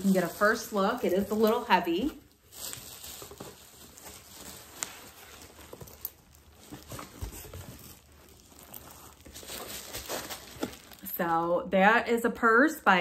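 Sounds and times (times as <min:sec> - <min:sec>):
tissue paper rustling: 0:00.0 - 0:11.4.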